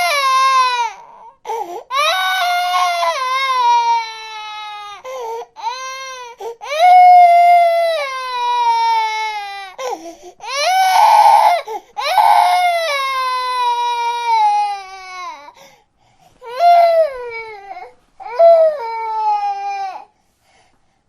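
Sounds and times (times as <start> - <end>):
infant crying: 0.0 - 15.6, 16.4 - 20.1.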